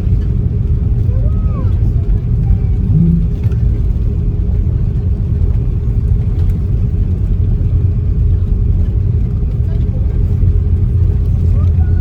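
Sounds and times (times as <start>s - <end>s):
airplane cabin rumble while taxiing: 0.0s - 12.0s.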